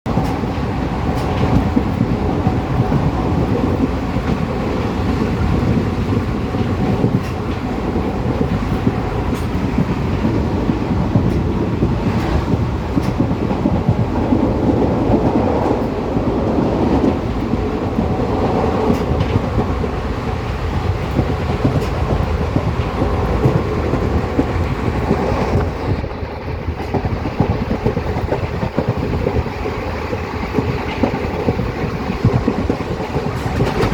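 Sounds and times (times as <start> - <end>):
train wheels rumbling: 0.0 - 33.9.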